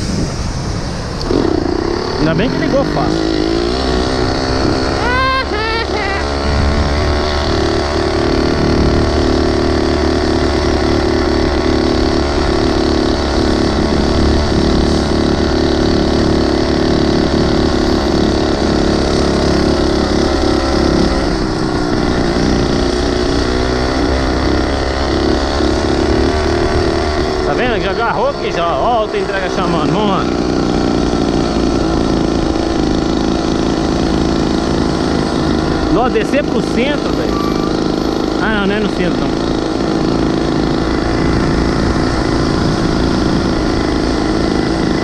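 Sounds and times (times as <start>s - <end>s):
mini bike engine running: 0.0s - 45.0s.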